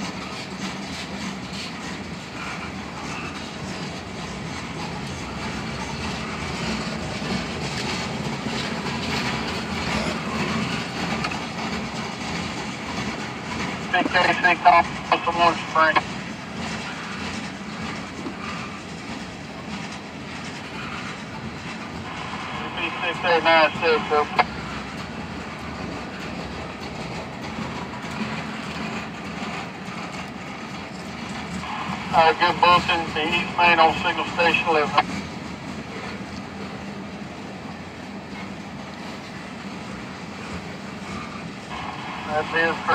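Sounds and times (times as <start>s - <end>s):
train wheels rolling on rails: 0.0s - 42.9s.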